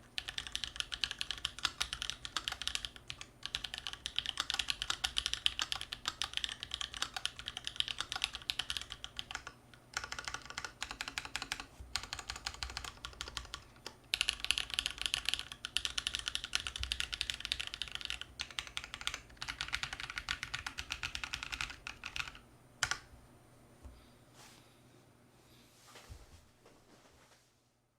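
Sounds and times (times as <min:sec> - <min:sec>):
mechanical keyboard typing: 0:00.1 - 0:23.1.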